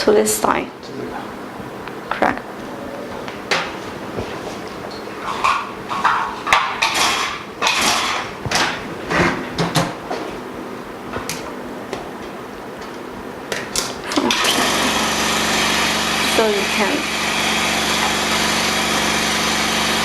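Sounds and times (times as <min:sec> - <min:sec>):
small vacuum pump running: 0:03.8 - 0:20.0.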